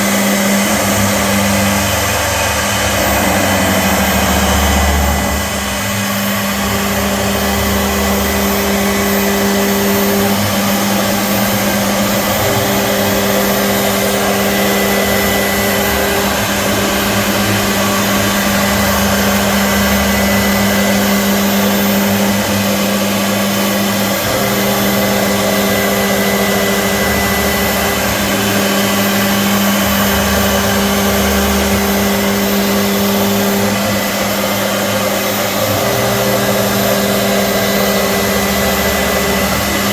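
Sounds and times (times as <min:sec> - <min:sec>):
higher machine tone: 0:00.0 - 0:39.9
machine motor humming: 0:00.0 - 0:39.9.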